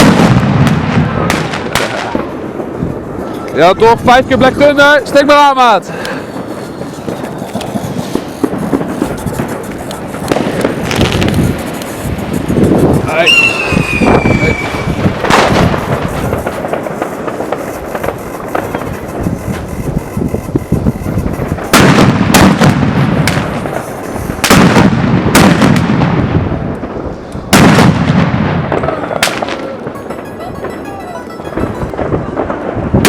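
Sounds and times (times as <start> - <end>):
fireworks booming: 0.0 - 33.0
fireworks crackling: 0.0 - 33.0.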